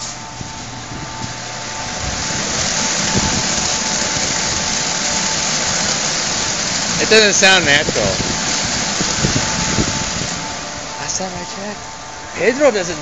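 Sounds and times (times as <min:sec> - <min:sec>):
car wash water spraying: 0:00.0 - 0:13.0
faint machine whine: 0:00.0 - 0:13.0.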